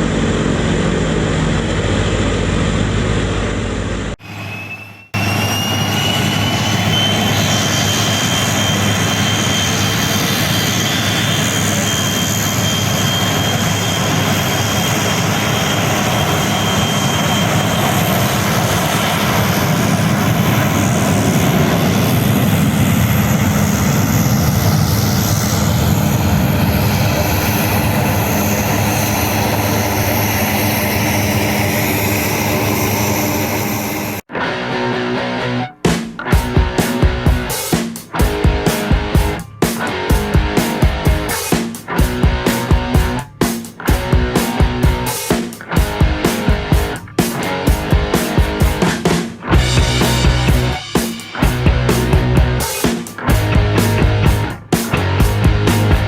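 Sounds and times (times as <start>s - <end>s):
jet engines roaring: 0.0s - 35.6s, 36.2s - 56.0s
high engine whine: 0.0s - 35.7s, 38.2s - 56.0s.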